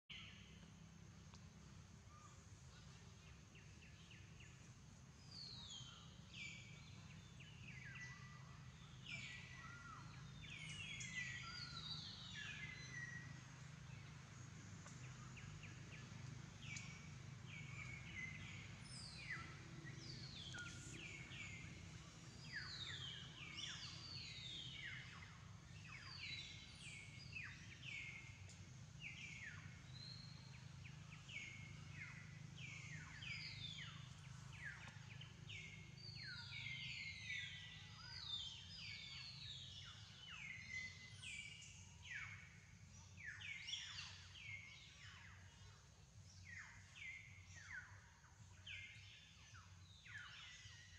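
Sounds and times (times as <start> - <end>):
low steady hum: 0.1 - 50.9
wild birds chirping: 0.1 - 50.9.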